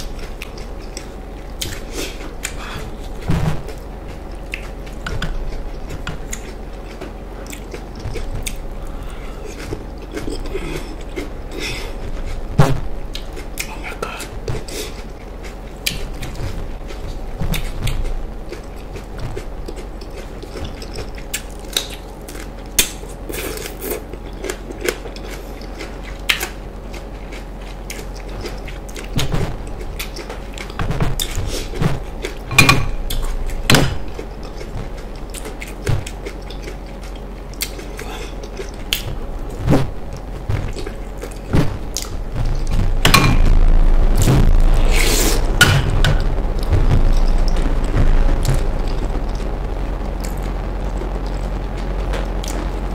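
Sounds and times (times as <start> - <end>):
chewing and biting food: 0.0 - 12.4, 13.1 - 43.6
faint steady hum: 0.0 - 52.9.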